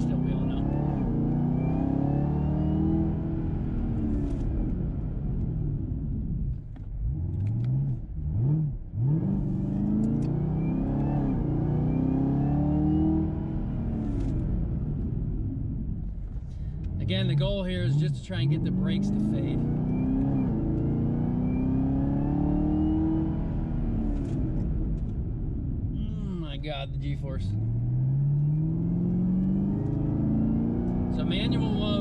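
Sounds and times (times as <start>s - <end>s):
car engine accelerating hard: 0.0s - 25.2s, 26.3s - 32.0s.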